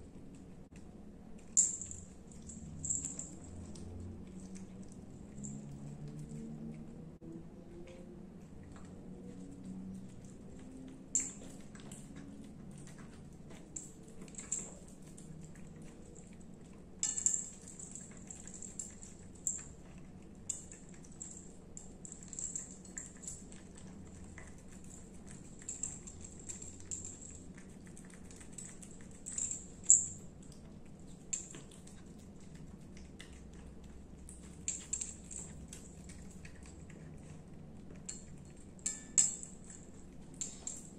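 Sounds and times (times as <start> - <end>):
cat licking and eating food: 0.0 - 40.9.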